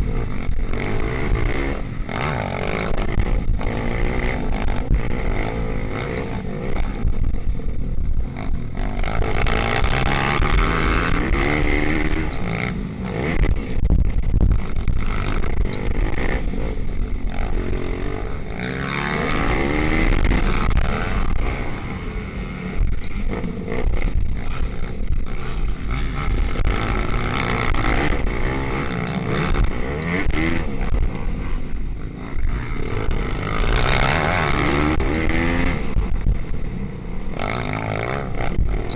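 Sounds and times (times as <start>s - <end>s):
pit bike engines revving: 0.0s - 38.9s.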